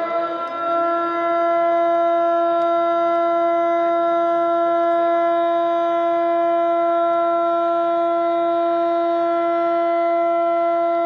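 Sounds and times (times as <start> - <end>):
siren long steady tone: 0.0 - 11.0.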